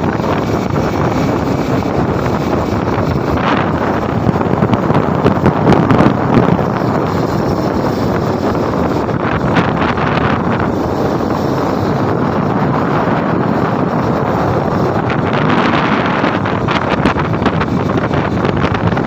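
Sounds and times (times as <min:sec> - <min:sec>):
motorbike rushing: 0:00.0 - 0:19.0
wind buffeting microphone: 0:00.0 - 0:19.0.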